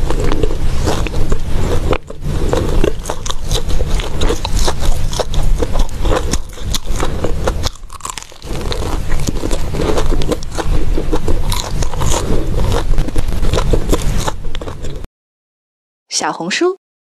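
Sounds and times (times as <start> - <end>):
crunchy food chewing: 0.0 - 15.0.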